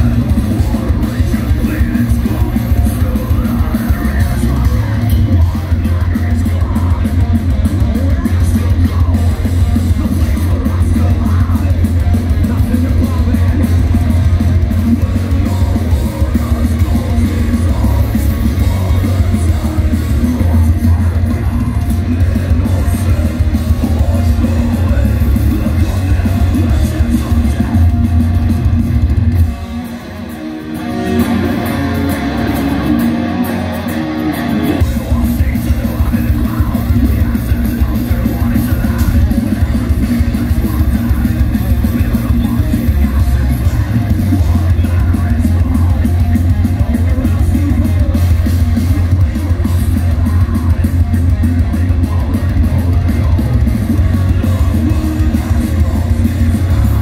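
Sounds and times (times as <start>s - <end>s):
distorted electric guitars: 0.0s - 57.0s
heavy bass: 0.0s - 57.0s.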